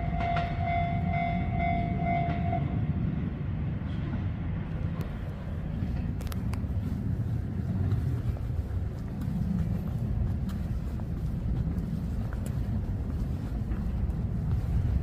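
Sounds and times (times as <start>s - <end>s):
distant vehicles rumbling: 0.0s - 15.0s.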